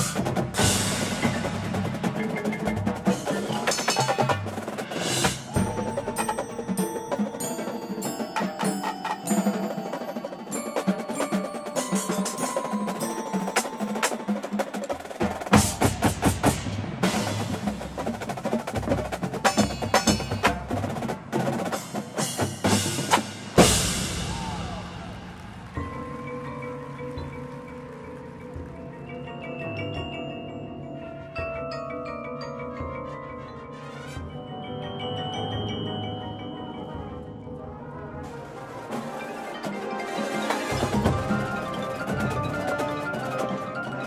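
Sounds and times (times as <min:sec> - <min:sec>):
snare and tenor drums: 0:00.0 - 0:30.3, 0:36.9 - 0:44.0
marimbas: 0:00.0 - 0:44.0.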